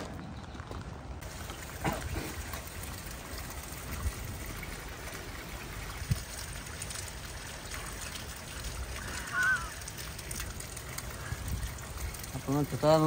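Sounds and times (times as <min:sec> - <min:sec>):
light rain falling: 0:00.5 - 0:13.0
water trickling: 0:01.2 - 0:13.0.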